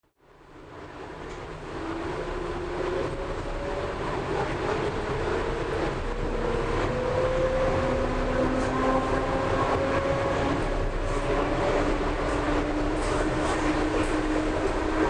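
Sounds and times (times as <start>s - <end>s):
train rumble: 0.2s - 15.0s.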